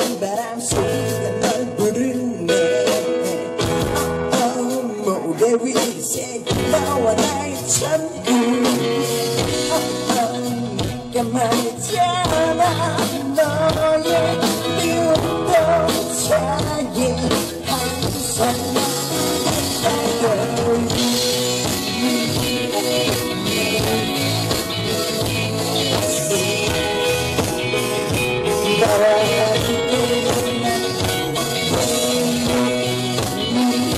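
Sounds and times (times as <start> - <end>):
lead singer singing: 0.0 - 33.9
live rock band playing: 0.0 - 33.9.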